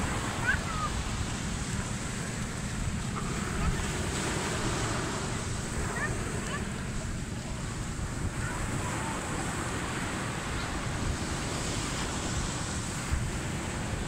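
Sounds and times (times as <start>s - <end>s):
ocean surf washing on beach: 0.0s - 14.0s
wind buffeting microphone: 0.0s - 14.0s.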